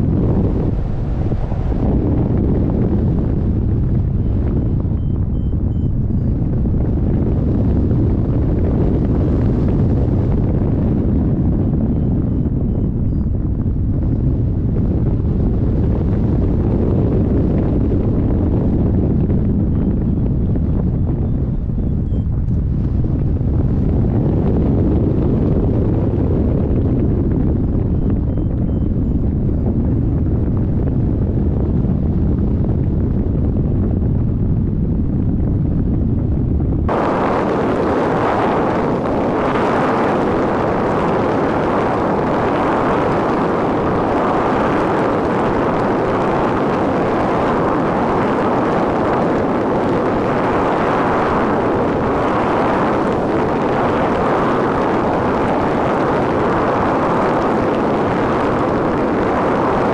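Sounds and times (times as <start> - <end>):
airflow rushing over microphone: 0.0 - 59.9.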